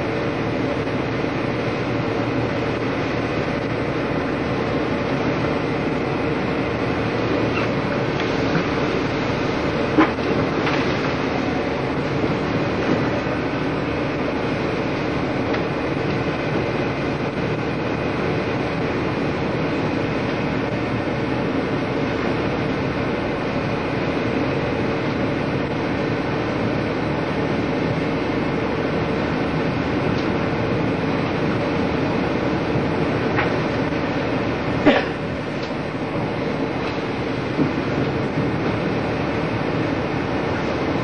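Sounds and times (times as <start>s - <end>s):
boat engine drone: 0.0s - 41.0s
wind: 0.0s - 41.0s.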